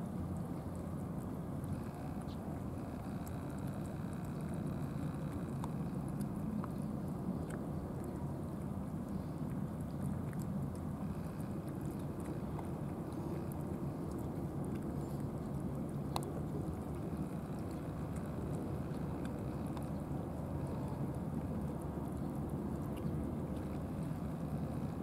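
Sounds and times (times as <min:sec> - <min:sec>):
cats chewing: 0:00.0 - 0:25.0
low outdoor rumble: 0:00.0 - 0:25.0.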